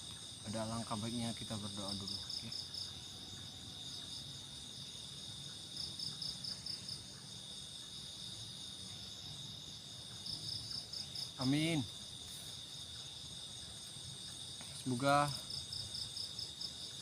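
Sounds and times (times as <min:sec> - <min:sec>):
insect pulsing trill: 0:00.0 - 0:17.0
insects droning: 0:00.0 - 0:17.0.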